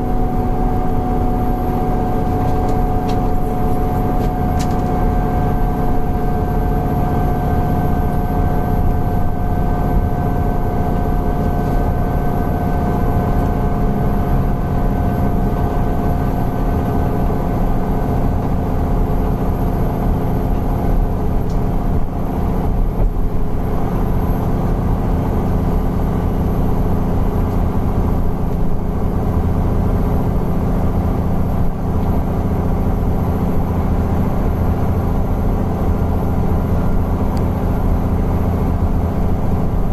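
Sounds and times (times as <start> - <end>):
bus engine low drone: 0.0 - 39.9.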